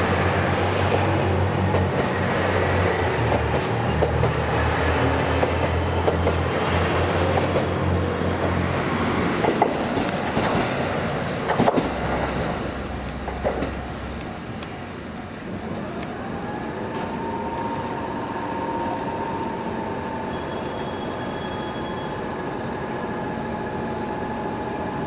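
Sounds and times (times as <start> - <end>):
diesel train engines running: 0.0 - 25.0.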